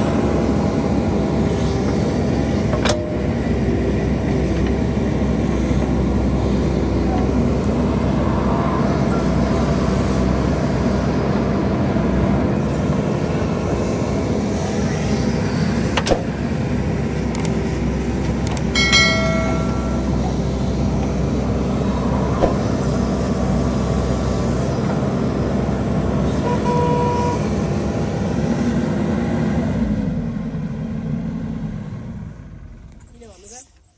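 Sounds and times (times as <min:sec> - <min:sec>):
diesel engine running: 0:00.0 - 0:33.6.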